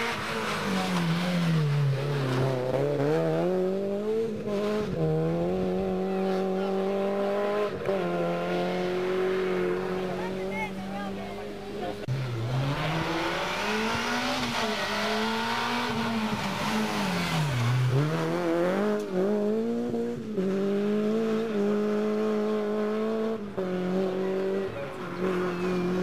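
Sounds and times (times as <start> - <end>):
rally car engine revving: 0.0 - 26.0
tyres rushing on road: 0.0 - 26.0.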